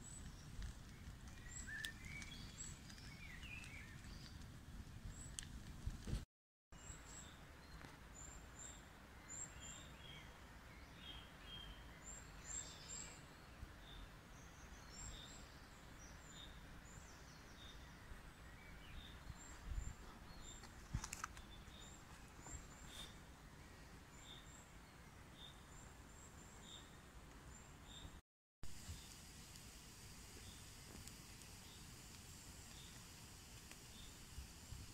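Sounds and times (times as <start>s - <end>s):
small birds chirping: 0.0s - 5.6s, 6.8s - 28.2s, 28.8s - 29.6s, 30.2s - 34.9s
faint background hiss: 6.8s - 34.9s.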